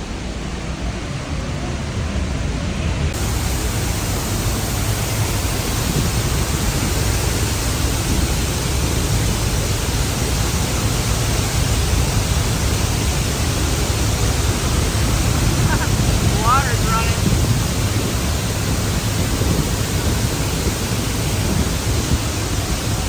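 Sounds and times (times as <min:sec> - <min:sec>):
water cascading over spillway: 0:03.1 - 0:23.0.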